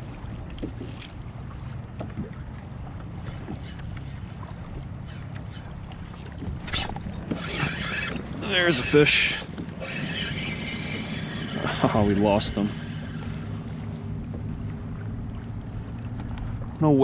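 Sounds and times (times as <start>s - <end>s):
water moving around kayak: 0.0s - 17.0s.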